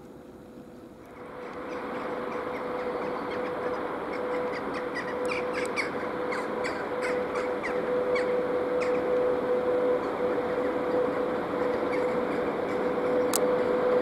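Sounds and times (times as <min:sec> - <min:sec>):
locomotive hum and running noise: 0:00.0 - 0:14.0.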